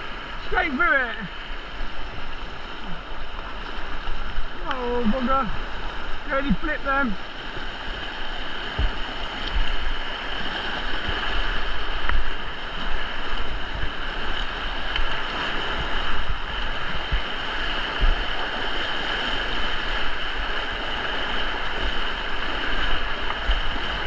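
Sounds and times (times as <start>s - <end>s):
whitewater rushing: 0.0s - 24.0s
wind buffeting microphone: 0.0s - 24.0s.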